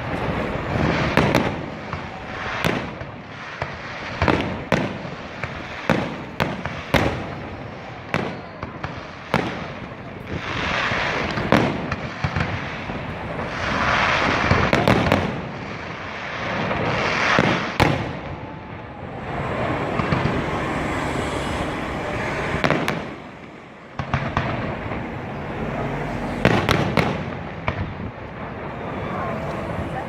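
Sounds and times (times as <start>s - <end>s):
rushing crackle of fireworks: 0.0s - 30.0s.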